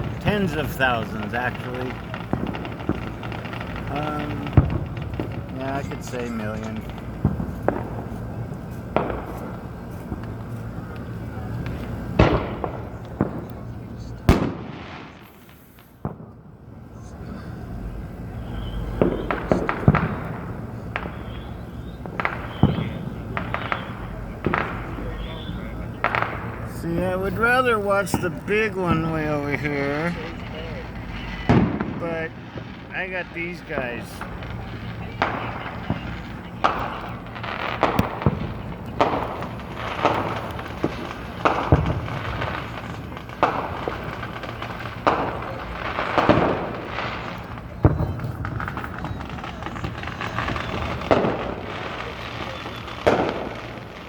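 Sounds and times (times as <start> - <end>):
fireworks bangs and booms: 0.0 - 54.0
rumble of distant fireworks: 0.0 - 54.0.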